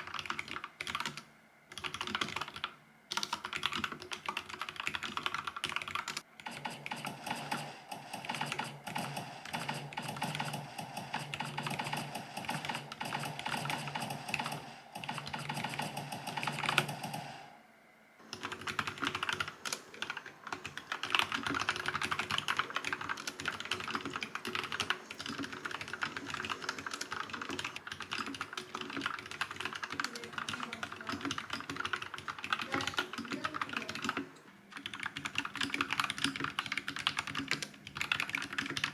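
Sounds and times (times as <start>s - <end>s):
mechanical keyboard typing: 0.0s - 17.4s, 18.2s - 38.9s.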